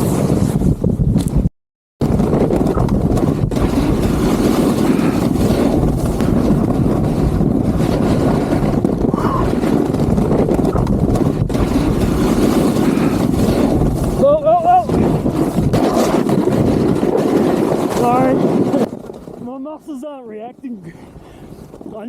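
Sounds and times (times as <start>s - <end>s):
wind rushing on microphone: 0.0s - 19.9s, 20.7s - 22.0s
skis running over snow: 2.0s - 22.0s.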